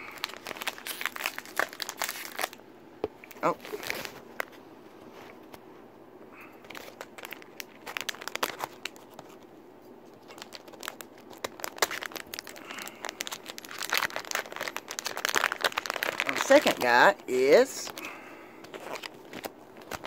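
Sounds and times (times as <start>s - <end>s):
plastic packaging crinkling: 0.0s - 2.6s, 3.2s - 4.6s, 6.6s - 20.0s.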